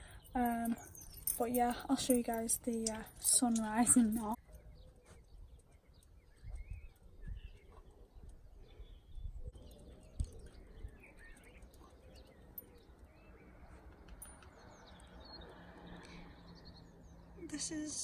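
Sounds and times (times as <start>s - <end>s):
small birds chirping and singing: 0.0s - 18.0s.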